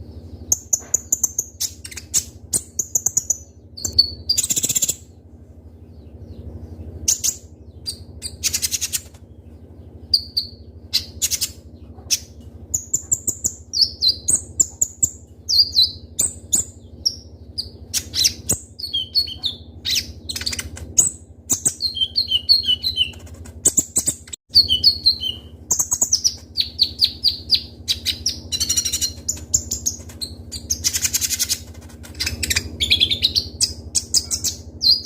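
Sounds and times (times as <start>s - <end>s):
steady low hum: 0.0s - 35.0s
sunbird singing high chirps: 0.0s - 35.0s.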